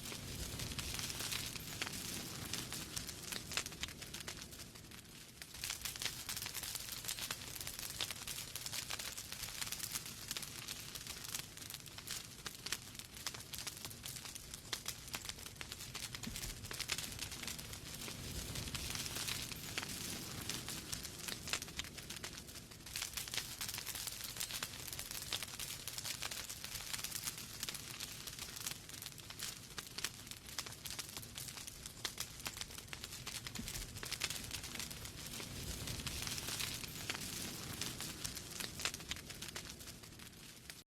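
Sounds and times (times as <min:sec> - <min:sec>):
fire low rumble: 0:00.0 - 0:40.8
wood fire crackling: 0:00.0 - 0:40.8.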